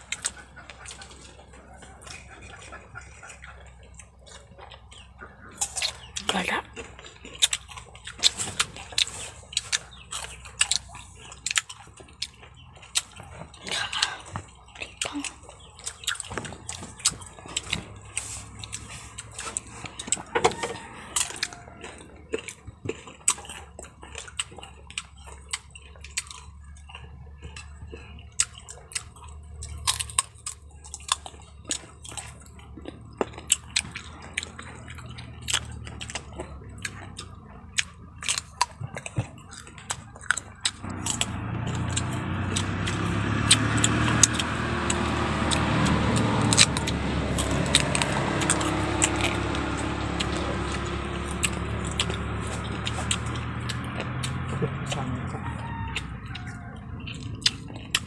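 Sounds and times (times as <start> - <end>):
crunchy biting and chewing: 0.0 - 58.0.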